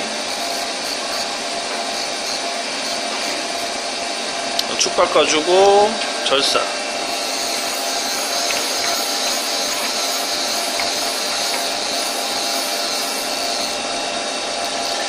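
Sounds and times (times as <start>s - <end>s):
lathe cutting metal with high hiss: 0.0s - 15.0s.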